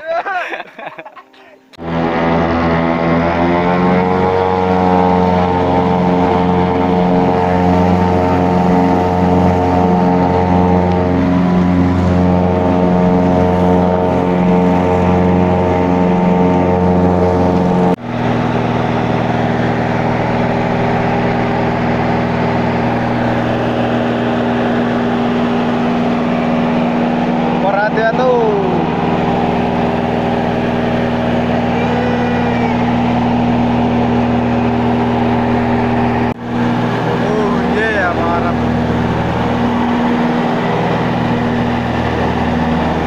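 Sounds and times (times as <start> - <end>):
propeller aircraft engine droning: 1.7 - 43.0.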